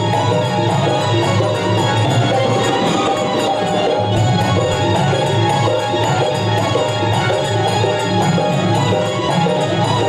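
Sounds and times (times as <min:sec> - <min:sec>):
harmonium melody: 0:00.0 - 0:10.0
steady percussion: 0:00.0 - 0:10.0.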